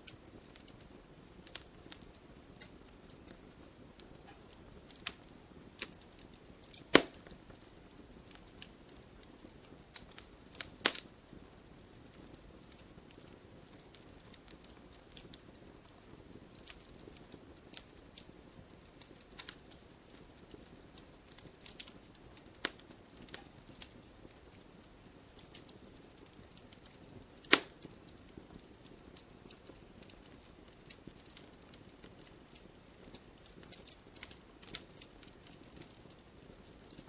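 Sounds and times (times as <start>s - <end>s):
hiss of flame: 0.0s - 15.7s, 17.6s - 35.9s
loud fire pops: 0.0s - 37.0s
wood crackling and snapping: 0.0s - 37.0s.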